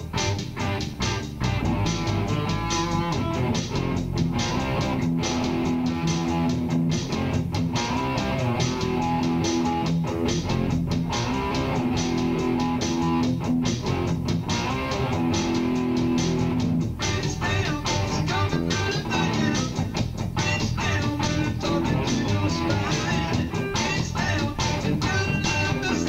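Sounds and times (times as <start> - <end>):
bass line: 0.0 - 26.0
guitar playing: 0.0 - 26.0.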